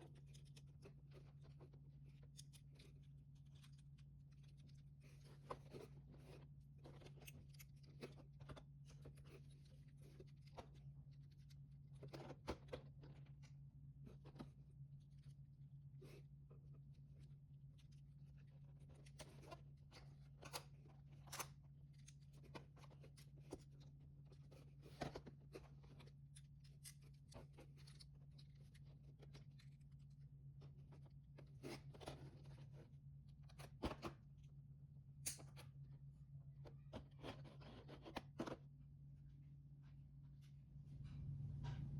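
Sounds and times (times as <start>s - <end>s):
low electrical hum: 0.0s - 41.9s.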